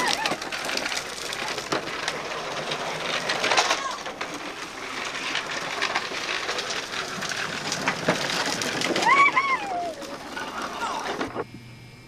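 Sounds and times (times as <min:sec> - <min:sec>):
sprinkler water on concrete: 0:00.0 - 0:11.2.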